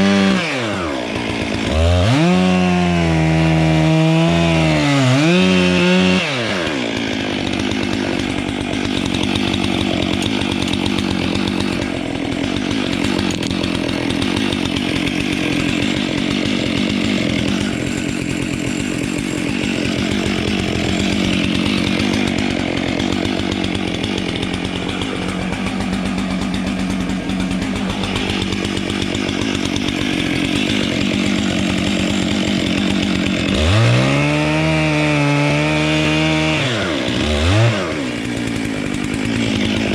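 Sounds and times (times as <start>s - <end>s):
chainsaw cutting into wood: 0.0s - 39.9s.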